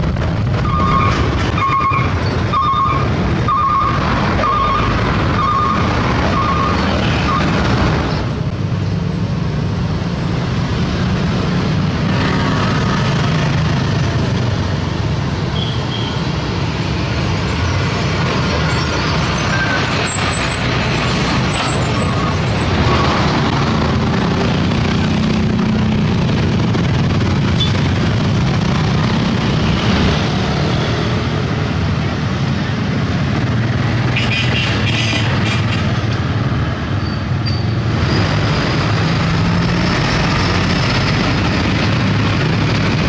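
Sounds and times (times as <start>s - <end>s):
road traffic noise: 0.0s - 43.0s
truck diesel engines rumbling: 0.0s - 43.0s.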